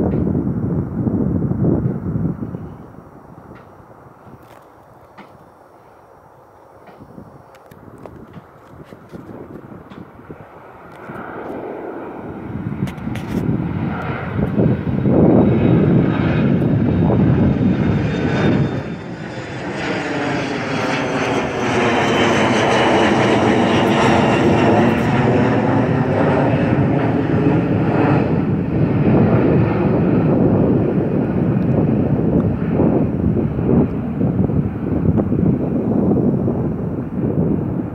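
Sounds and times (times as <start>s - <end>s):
jet airliner taking off: 0.0s - 37.9s.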